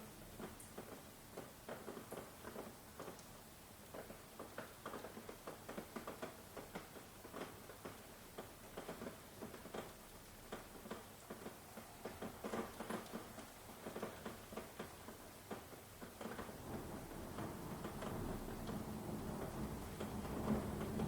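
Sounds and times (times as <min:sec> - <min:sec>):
rain hiss: 0:00.0 - 0:21.0
raindrops tapping: 0:00.3 - 0:21.0.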